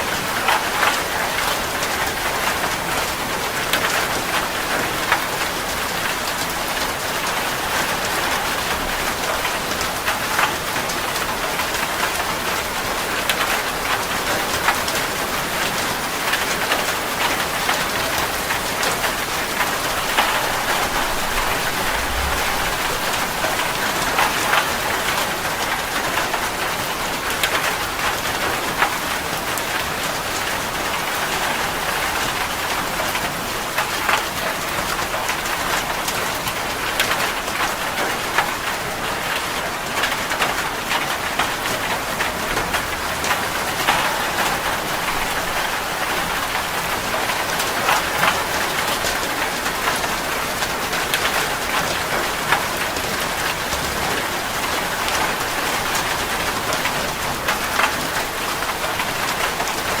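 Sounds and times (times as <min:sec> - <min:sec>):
heavy rain on a metal roof: 0:00.0 - 1:00.0.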